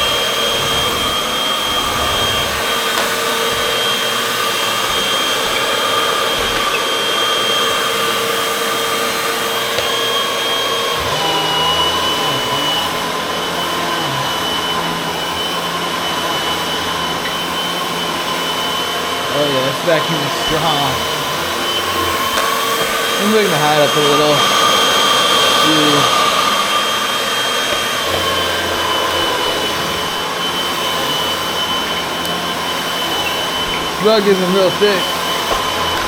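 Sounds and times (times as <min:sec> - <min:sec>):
vacuum cleaner motor whine: 0:00.0 - 0:36.0.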